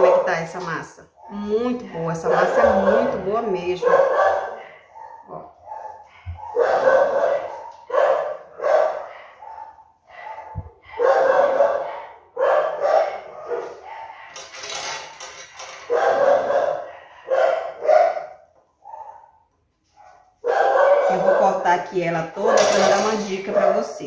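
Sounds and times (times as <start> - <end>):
dog barking: 0.0 - 1.5, 2.1 - 14.4, 15.8 - 21.8, 22.4 - 24.0.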